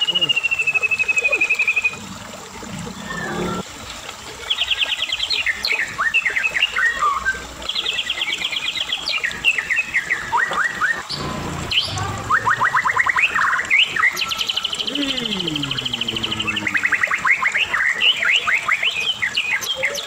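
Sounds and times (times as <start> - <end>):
bird singing trills and whistles: 0.0 - 2.0, 4.5 - 20.0.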